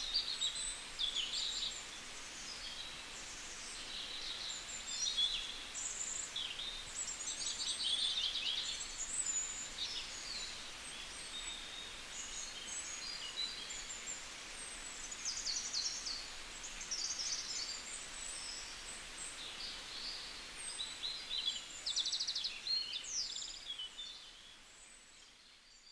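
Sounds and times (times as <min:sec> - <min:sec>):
steady outdoor hiss: 0:00.0 - 0:25.9.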